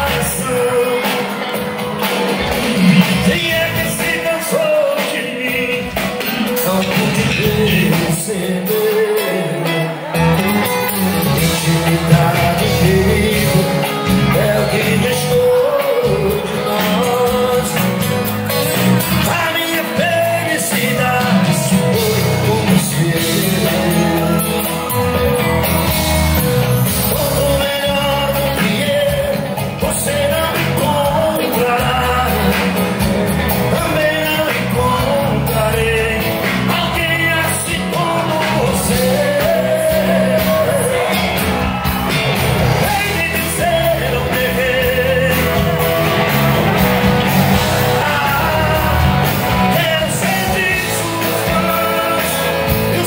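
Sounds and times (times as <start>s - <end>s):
live band through pa: 0.0s - 53.0s
man singing lead vocal: 0.0s - 53.0s.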